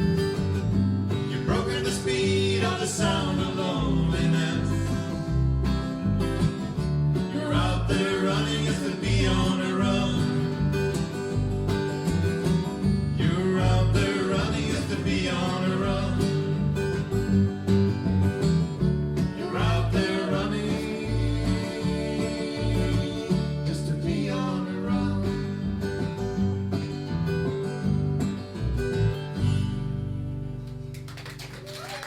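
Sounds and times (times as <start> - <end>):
bass line: 0.0 - 30.9
acoustic guitar: 0.0 - 32.0.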